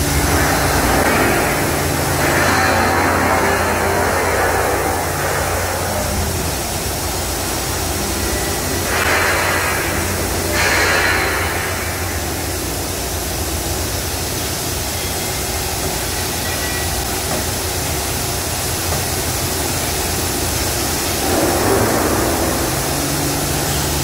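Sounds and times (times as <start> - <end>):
machinery hum and rumble: 0.0 - 24.0.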